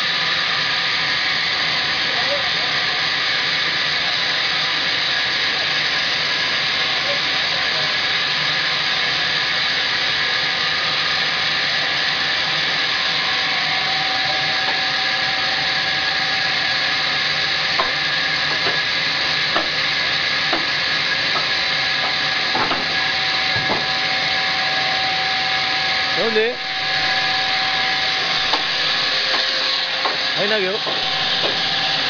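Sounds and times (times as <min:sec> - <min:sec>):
sawmill saw cutting log: 0:00.0 - 0:32.0.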